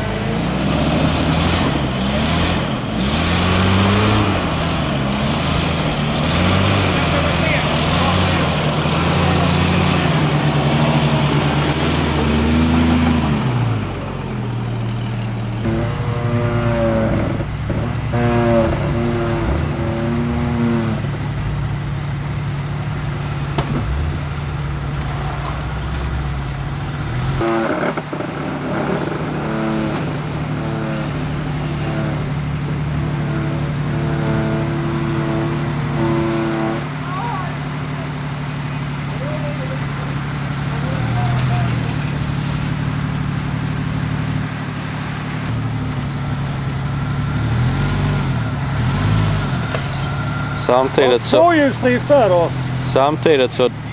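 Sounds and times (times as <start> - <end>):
off-road vehicle engine revving: 0.0 - 53.9.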